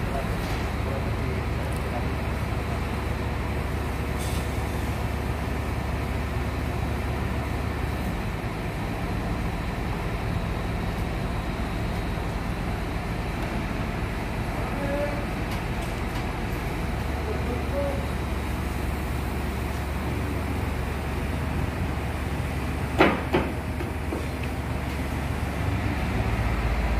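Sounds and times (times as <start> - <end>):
crane engine droning: 0.0 - 26.9.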